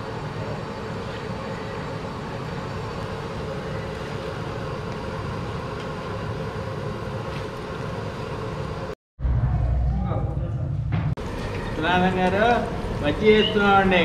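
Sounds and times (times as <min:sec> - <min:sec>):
gas burner rushing: 0:00.0 - 0:09.0, 0:11.2 - 0:14.0.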